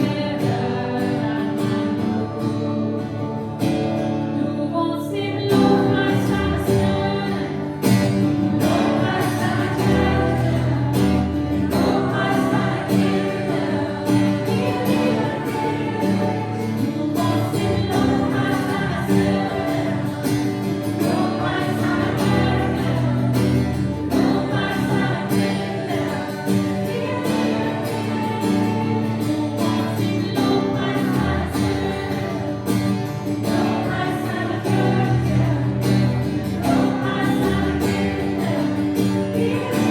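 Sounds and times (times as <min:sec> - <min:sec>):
group singing praise song: 0:00.0 - 0:02.8, 0:05.4 - 0:39.9
acoustic guitar: 0:00.0 - 0:39.9.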